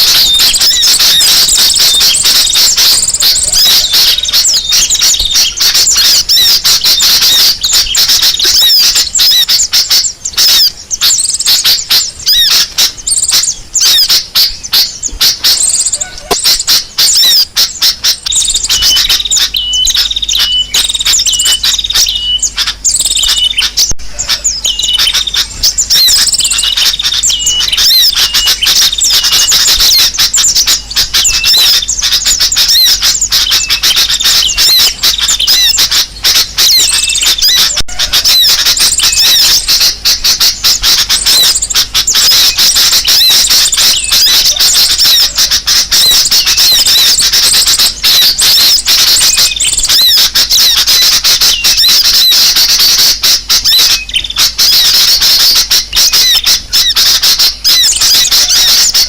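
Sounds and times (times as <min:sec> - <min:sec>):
small birds chirping and squawking: 0:00.0 - 0:59.0.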